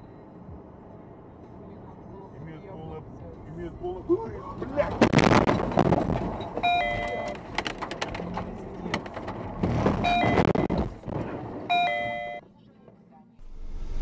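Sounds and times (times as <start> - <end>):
car road noise on wet highway: 0.5 - 11.8.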